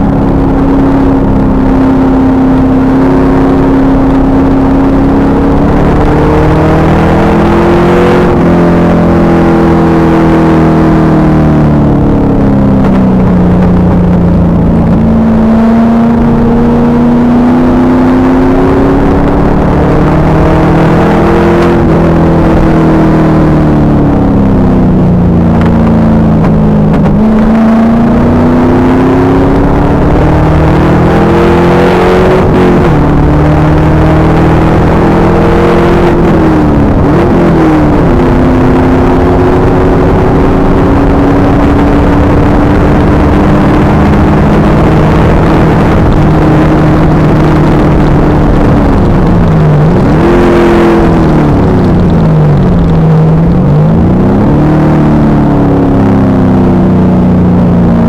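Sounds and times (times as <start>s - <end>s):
loud engine revving: 0.0s - 13.9s, 14.6s - 57.2s.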